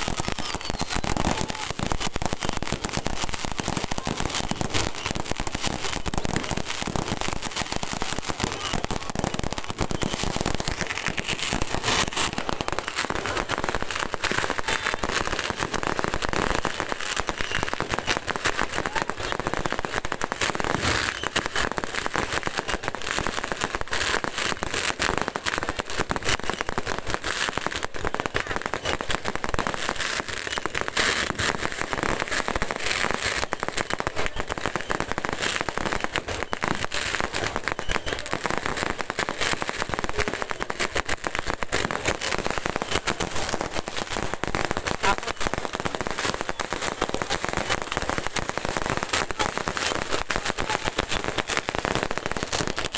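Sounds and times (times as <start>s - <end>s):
fireworks crackling pops: 0.0s - 52.9s.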